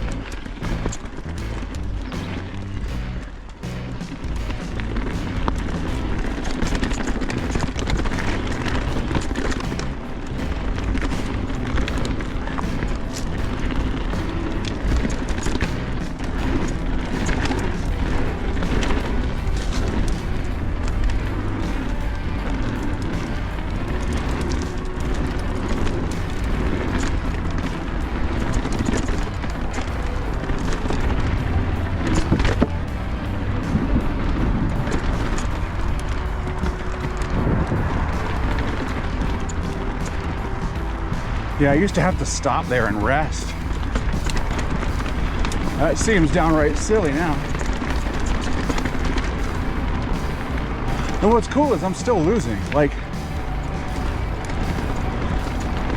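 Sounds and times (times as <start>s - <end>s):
bike clicks and rattles: 0.0s - 55.9s
wind and tyre rumble: 0.0s - 55.9s.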